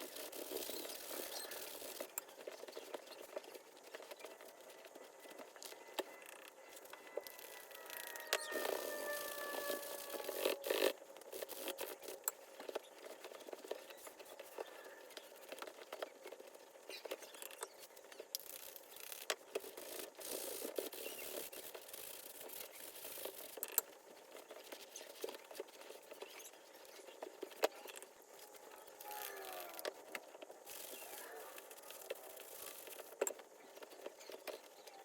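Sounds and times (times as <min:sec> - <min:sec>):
hands rubbing leather glove: 0:00.0 - 0:17.5, 0:18.2 - 0:34.6.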